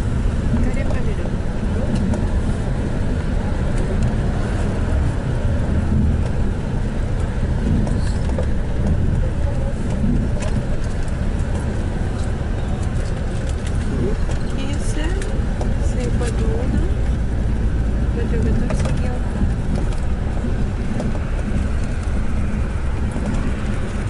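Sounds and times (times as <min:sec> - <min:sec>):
road vehicle rumble: 0:00.0 - 0:24.0.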